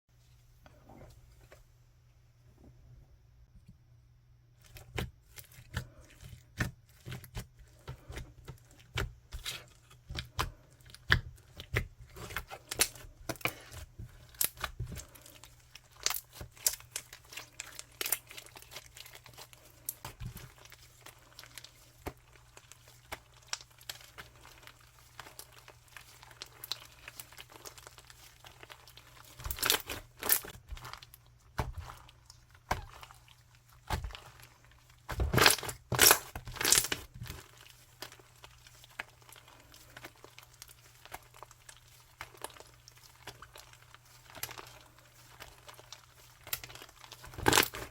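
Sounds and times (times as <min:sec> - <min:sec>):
slime crackling and popping: 0:08.0 - 0:47.9.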